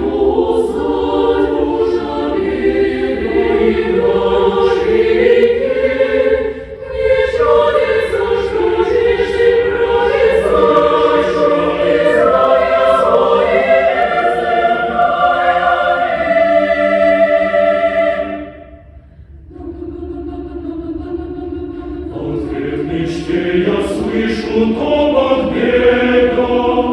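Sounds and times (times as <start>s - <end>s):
choir singing sustained chords: 0.0s - 26.9s.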